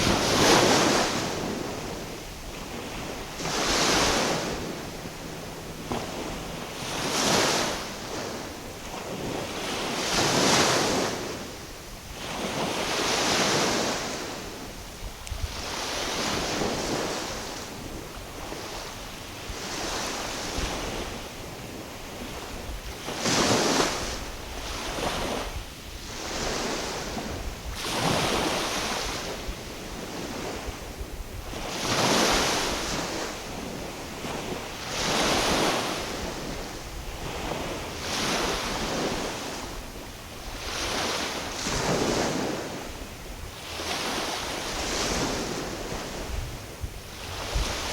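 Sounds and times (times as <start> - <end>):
small waves washing in: 0.0 - 47.9
wind rumbling on microphone: 0.0 - 47.9.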